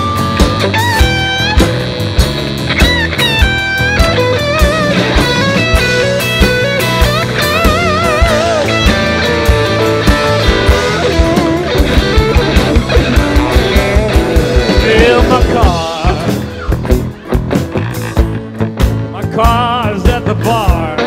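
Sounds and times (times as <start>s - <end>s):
bass guitar: 0.0s - 21.0s
drum beat: 0.0s - 21.0s
electric guitar lead: 0.0s - 21.0s.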